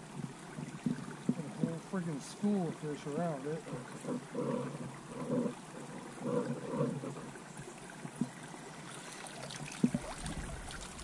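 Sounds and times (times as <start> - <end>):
creek water trickling: 0.0 - 11.0
wire pot dragged through water: 1.2 - 11.0.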